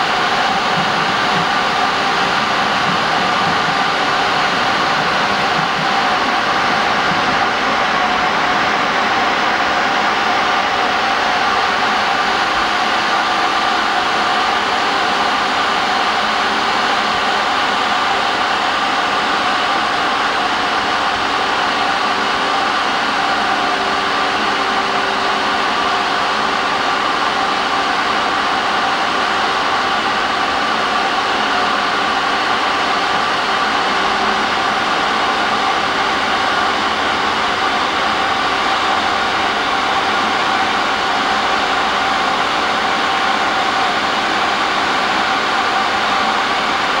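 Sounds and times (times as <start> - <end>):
machine fan running: 0.0 - 47.0.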